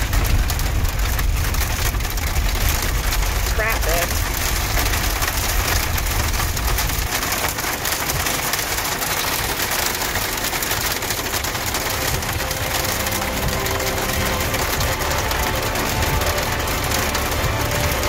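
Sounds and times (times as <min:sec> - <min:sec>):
heavy rain on vehicle roof: 0:00.0 - 0:18.0
moving vehicle rumble: 0:00.0 - 0:18.0.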